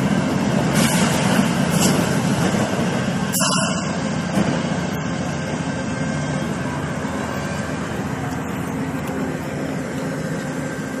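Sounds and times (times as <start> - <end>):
heavy vehicle rumbling: 0.0 - 11.0.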